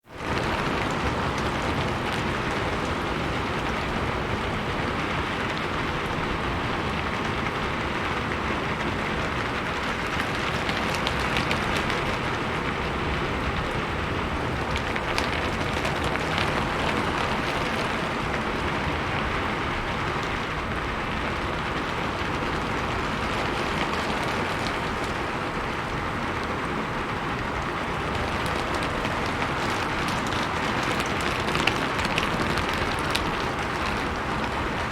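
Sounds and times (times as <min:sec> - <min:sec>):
rain falling on a rooftop: 0:00.0 - 0:34.9.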